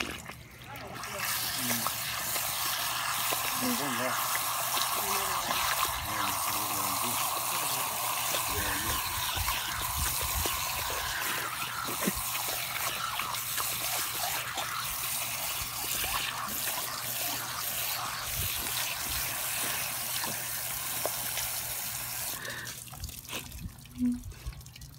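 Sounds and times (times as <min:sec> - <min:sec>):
water splashing on puppy's mouth: 0:00.0 - 0:24.9
hose nozzle spraying water: 0:00.9 - 0:23.6.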